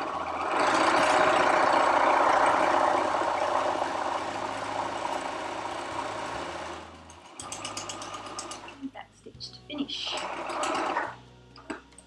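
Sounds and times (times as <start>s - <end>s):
sewing machine stitching: 0.0s - 8.8s, 10.0s - 11.2s.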